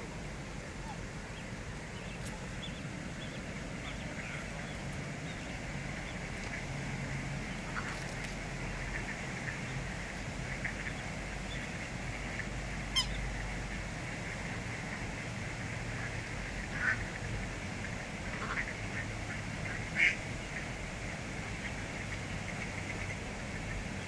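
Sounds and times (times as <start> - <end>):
ducks and swans quacking: 0.6 - 24.0.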